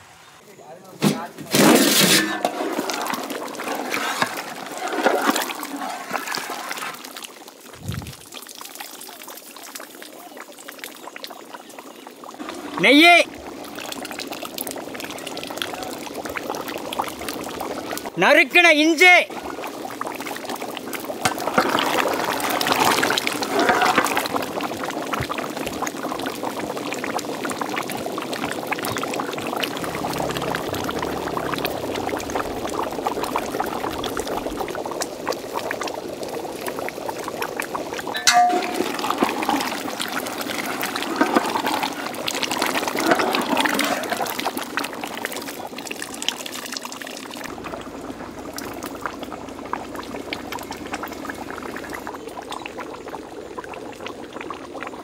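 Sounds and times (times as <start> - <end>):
curry bubbling in a pot: 1.5 - 18.2, 19.2 - 55.0.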